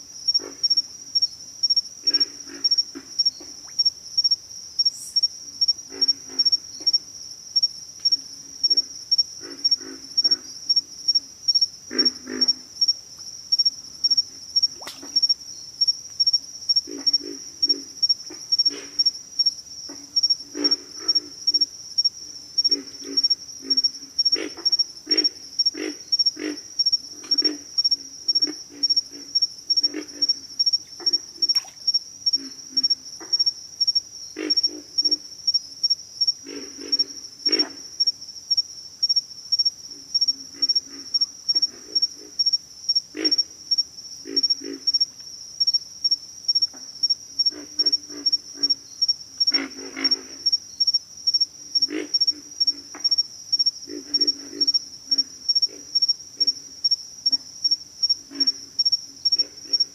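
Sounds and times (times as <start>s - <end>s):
high-pitched insect trill: 0.2s - 36.4s, 37.0s - 59.9s
frogs grunting: 2.0s - 4.9s, 5.8s - 7.0s, 8.5s - 12.9s, 13.6s - 15.4s, 16.3s - 38.6s, 39.6s - 45.7s, 46.6s - 59.9s.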